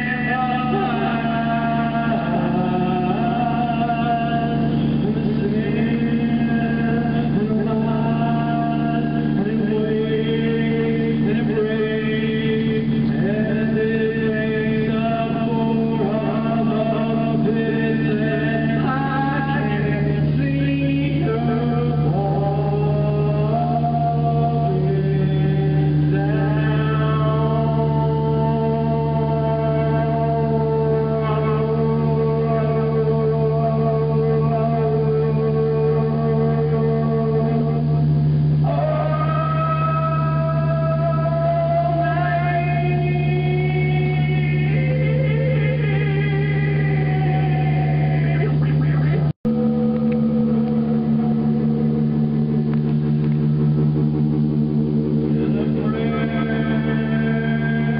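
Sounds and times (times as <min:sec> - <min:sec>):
low musical accompaniment: 0:00.0 - 0:57.9
man singing long notes: 0:00.0 - 0:57.9
steady low drone: 0:00.0 - 0:57.9.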